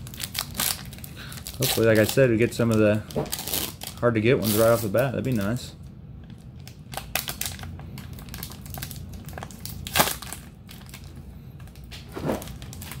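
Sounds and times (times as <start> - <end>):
foil wrapper crinkling: 0.0 - 5.6, 6.3 - 13.0.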